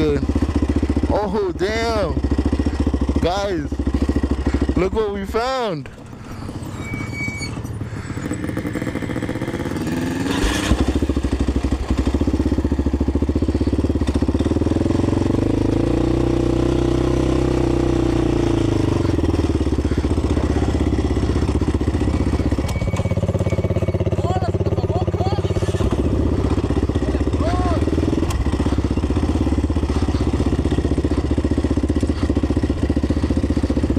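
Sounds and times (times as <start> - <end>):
atv engine running: 0.0 - 33.9.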